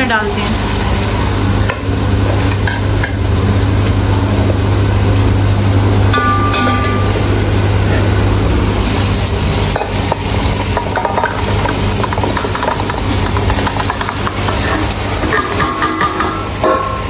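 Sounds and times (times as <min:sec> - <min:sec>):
chicken sizzling in masala: 0:00.0 - 0:17.0
steady low hum: 0:00.0 - 0:17.0.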